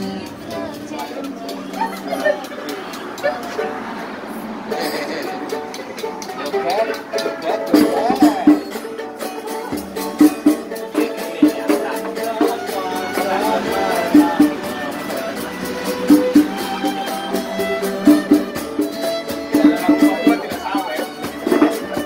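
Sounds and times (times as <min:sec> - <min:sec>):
light percussion rhythm: 0:00.0 - 0:22.0
street musicians playing melody: 0:00.0 - 0:22.0.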